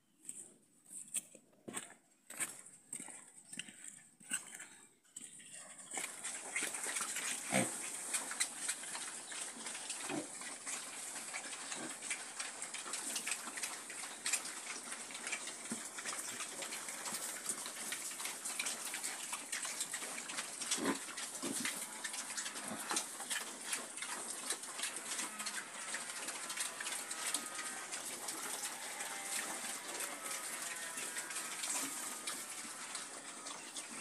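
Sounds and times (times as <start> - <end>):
pigs chewing and snuffling: 0.1 - 34.0
pigs grunting: 5.5 - 34.0.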